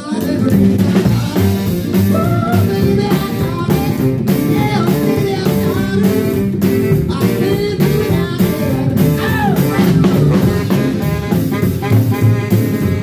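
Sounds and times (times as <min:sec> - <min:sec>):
drum kit: 0:00.0 - 0:13.0
piano: 0:00.0 - 0:13.0
saxophone: 0:00.0 - 0:13.0
upright bass: 0:00.0 - 0:13.0.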